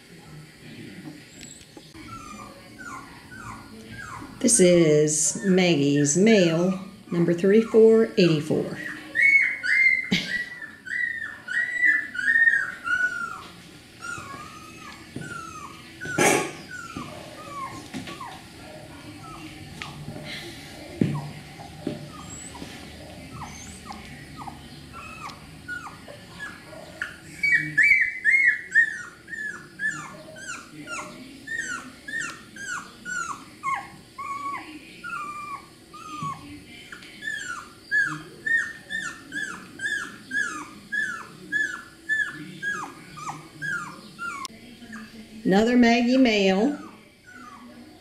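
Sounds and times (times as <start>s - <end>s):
puppy whimpering cries: 1.9s - 19.6s, 21.1s - 45.1s, 46.5s - 48.0s.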